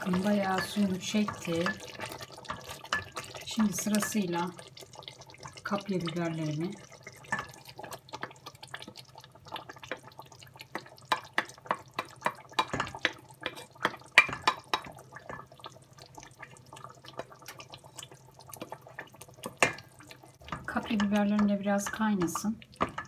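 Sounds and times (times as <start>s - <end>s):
sauce bubbling and popping: 0.0s - 23.0s.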